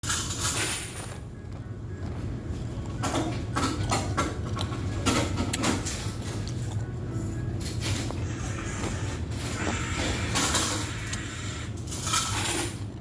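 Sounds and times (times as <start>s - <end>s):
washers and dryers humming: 0.0s - 13.0s
chewing ice: 1.2s - 12.1s.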